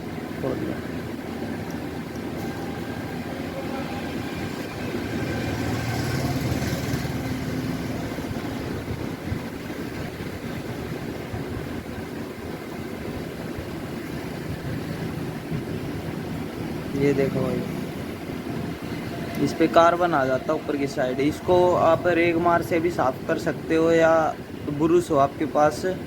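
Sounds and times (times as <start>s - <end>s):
engine-like hum: 0.0s - 26.0s.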